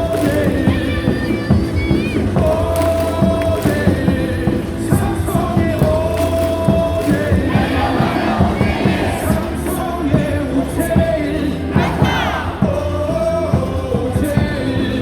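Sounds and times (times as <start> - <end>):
cheering music over speakers: 0.0 - 14.4
crowd singing and chanting: 0.0 - 15.0
steady drum beat: 0.0 - 15.0.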